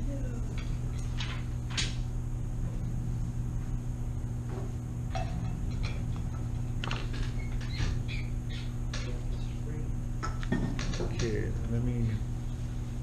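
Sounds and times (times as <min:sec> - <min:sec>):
low ventilation hum: 0:00.0 - 0:13.0.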